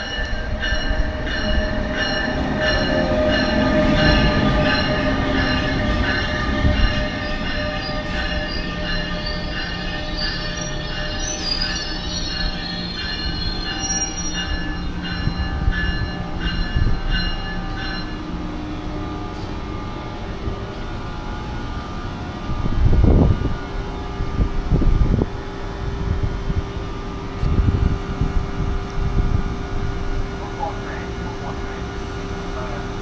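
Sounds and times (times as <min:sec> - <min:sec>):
pulsing metallic ringing tone: 0:00.0 - 0:33.0
train rolling past: 0:00.0 - 0:33.0.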